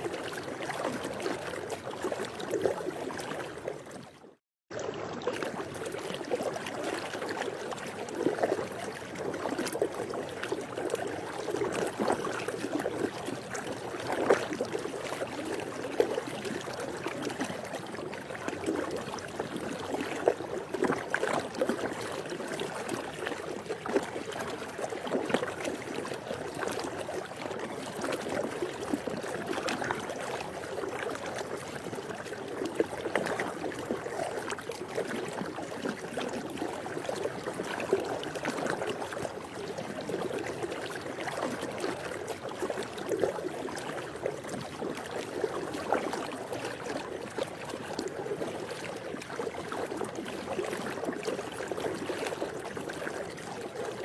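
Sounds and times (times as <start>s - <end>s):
pool water lapping: 0.0s - 54.0s
small water splashes: 0.0s - 54.0s.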